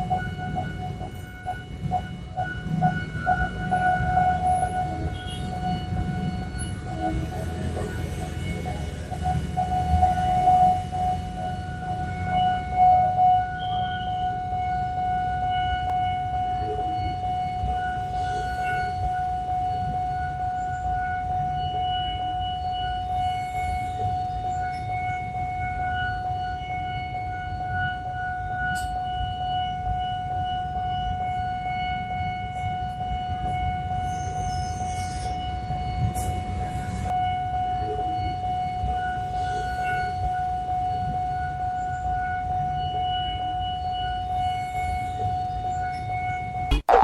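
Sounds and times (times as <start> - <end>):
level crossing warning siren: 0.0 - 47.0.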